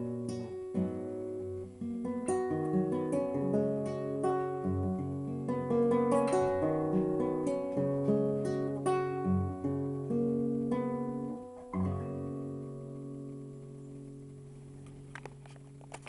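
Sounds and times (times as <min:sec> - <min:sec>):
acoustic guitar ballad: 0:00.0 - 0:16.0.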